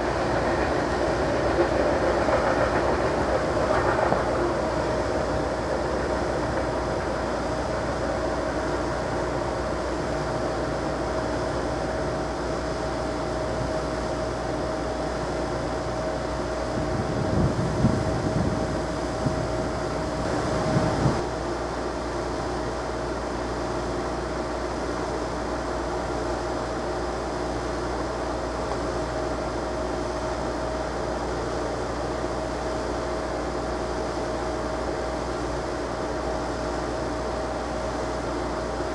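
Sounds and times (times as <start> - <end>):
freight train rolling on rails: 0.0 - 38.9
steady tonal hum: 0.0 - 38.9.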